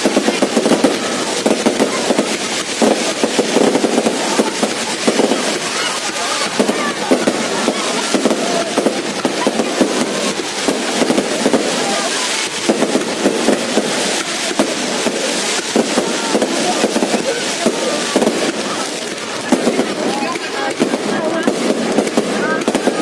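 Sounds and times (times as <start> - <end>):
fireworks cracking and banging: 0.0 - 23.0.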